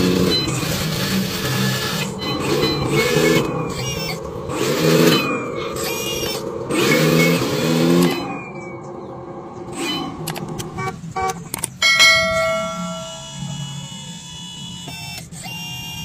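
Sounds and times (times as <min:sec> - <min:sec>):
model truck engine revving: 0:00.0 - 0:16.0.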